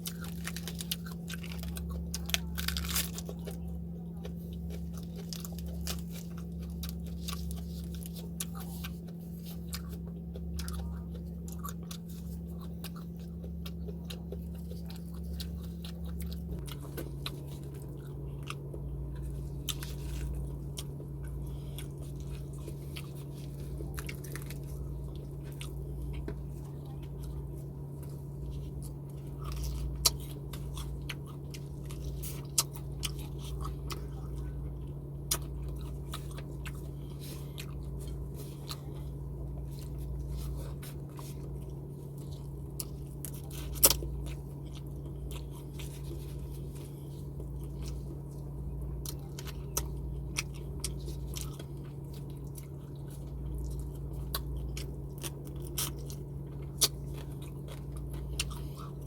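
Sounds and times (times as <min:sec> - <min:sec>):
low electrical hum: 0:00.0 - 0:59.0
person chewing food: 0:00.0 - 0:59.0.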